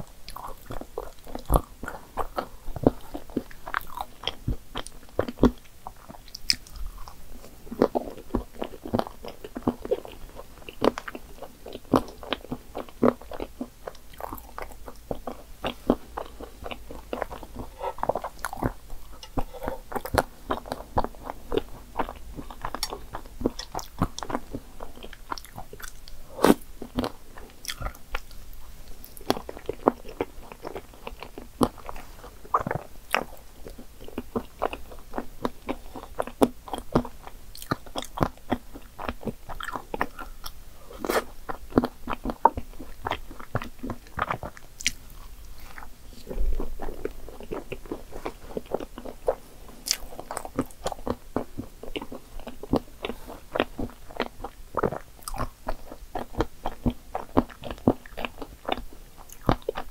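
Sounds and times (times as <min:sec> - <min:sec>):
chewing mouth clicks and smacks: 0:00.2 - 0:28.4, 0:29.0 - 0:59.9.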